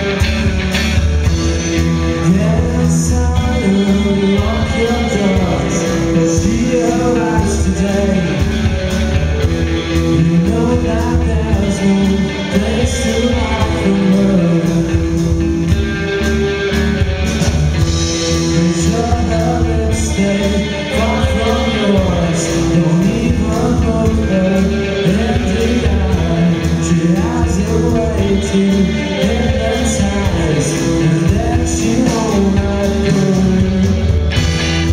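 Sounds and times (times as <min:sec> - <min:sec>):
bass guitar: 0:00.0 - 0:34.9
drum kit with cymbals: 0:00.0 - 0:34.9
electric guitars: 0:00.0 - 0:34.9
man singing: 0:01.3 - 0:16.2, 0:18.0 - 0:34.4.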